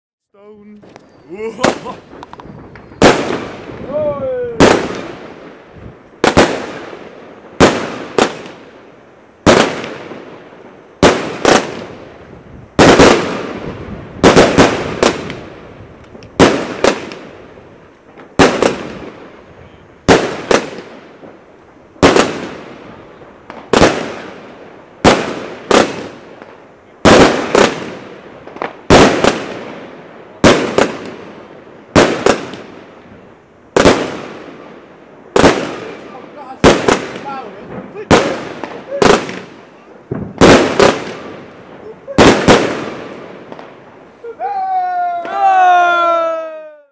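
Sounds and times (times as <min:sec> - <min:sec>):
fireworks bangs: 0:00.7 - 0:46.9.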